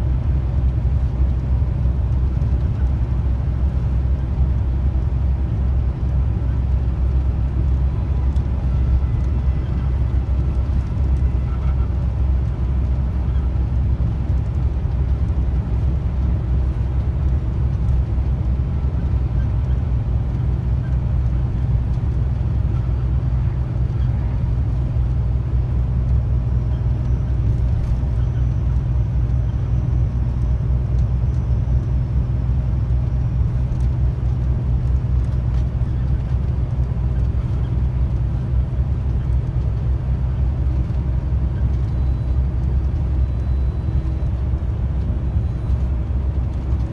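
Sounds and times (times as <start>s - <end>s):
road and tyre noise: 0.0s - 46.9s
truck engine drone: 0.0s - 46.9s.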